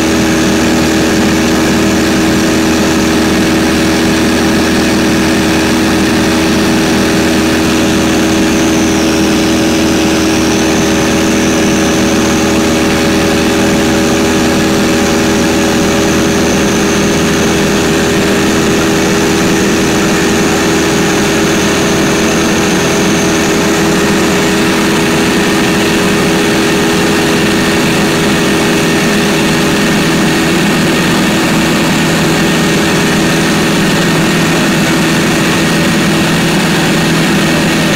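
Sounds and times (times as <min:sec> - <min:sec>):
airplane engine and propeller drone: 0:00.0 - 0:37.9.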